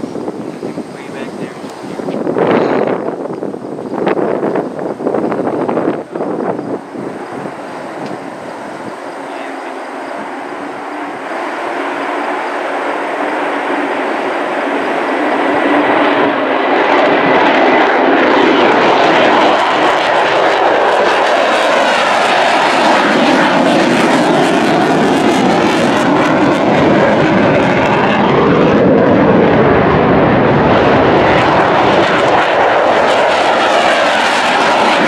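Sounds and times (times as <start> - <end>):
fighter jet passing overhead: 0.0 - 35.0.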